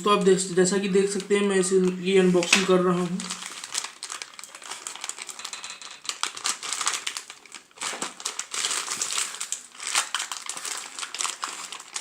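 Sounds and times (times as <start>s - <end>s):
packaging crinkling and rustling: 1.0s - 12.0s.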